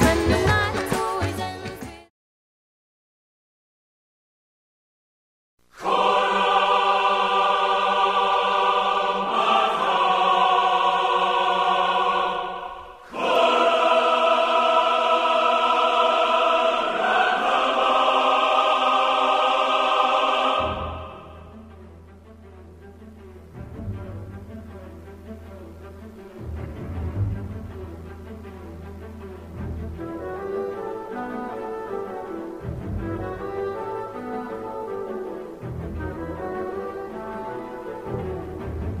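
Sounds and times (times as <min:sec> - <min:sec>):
quiet low music passage: 0:05.9 - 0:39.0.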